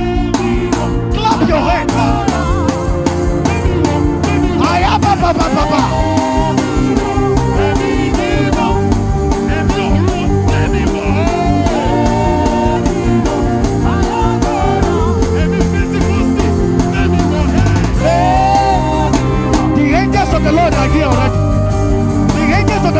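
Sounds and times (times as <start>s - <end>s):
live church band music: 0.0s - 22.9s
person singing: 0.0s - 22.9s.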